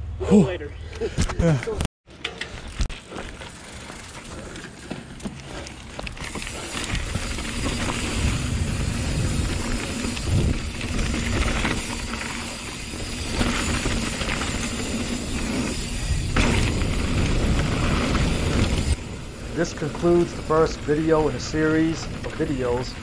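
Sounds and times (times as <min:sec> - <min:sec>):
wind: 0:00.0 - 0:23.0
bike frame and chain rattling: 0:02.1 - 0:23.0
bike tyres on gravel: 0:02.1 - 0:23.0.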